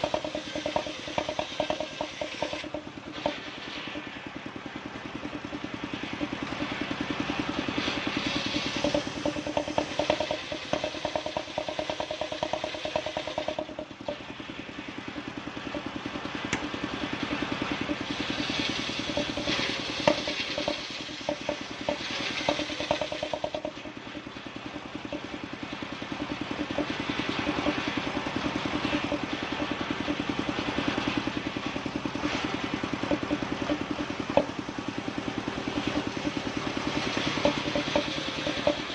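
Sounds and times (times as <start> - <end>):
engine-driven wood saw cutting: 0.0 - 38.9.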